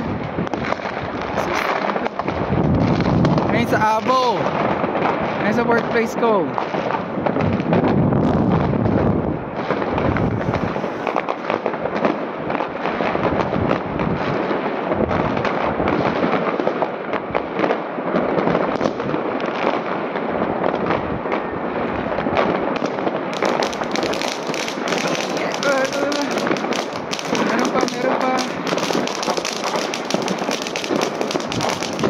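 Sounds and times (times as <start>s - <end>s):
fireworks and firecrackers crackling: 0.0s - 32.0s.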